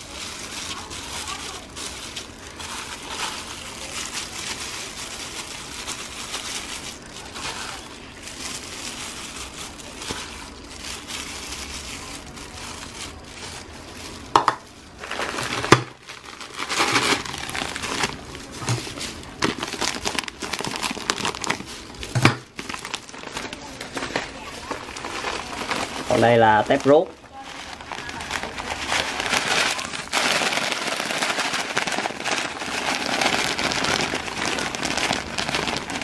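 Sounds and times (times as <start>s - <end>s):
plastic bag and gloves crinkling: 0.0s - 36.0s
plastic bag crackles: 0.0s - 36.0s.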